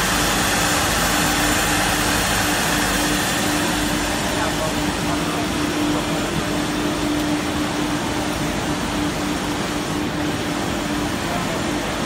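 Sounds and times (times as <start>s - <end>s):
woodworking machine humming: 0.0s - 12.0s.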